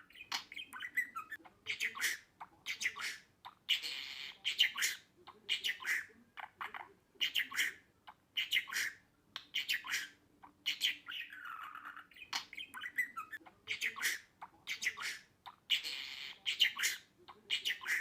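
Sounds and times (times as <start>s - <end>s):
budgerigar chirping and squawking: 0.0s - 18.0s.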